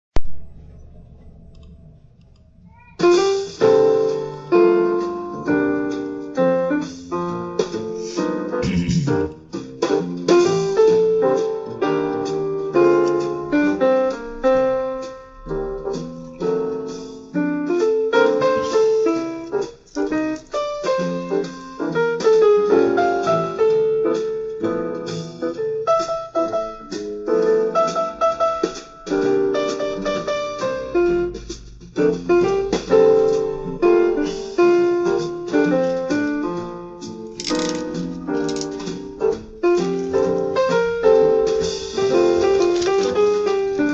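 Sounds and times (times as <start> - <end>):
piano music: 2.8 - 43.9.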